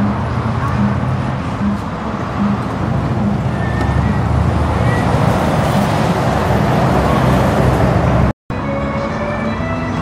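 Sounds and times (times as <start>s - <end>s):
truck engine drone: 0.0s - 10.0s.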